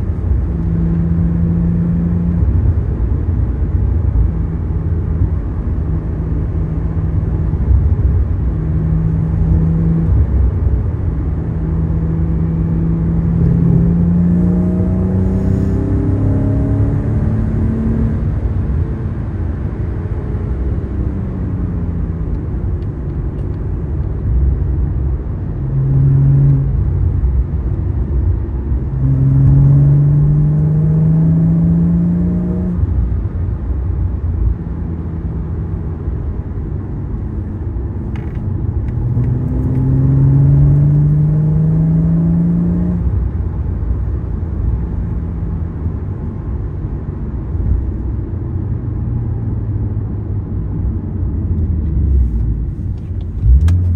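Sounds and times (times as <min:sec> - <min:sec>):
car engine accelerating: 0:00.0 - 0:53.9
road rumble: 0:00.0 - 0:53.9.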